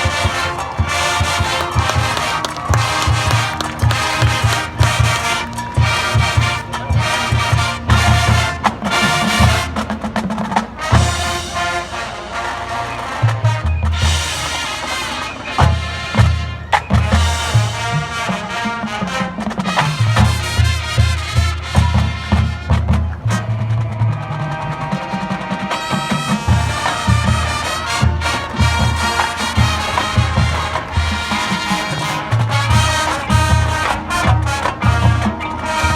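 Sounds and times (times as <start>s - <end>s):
marching band playing: 0.0s - 35.9s.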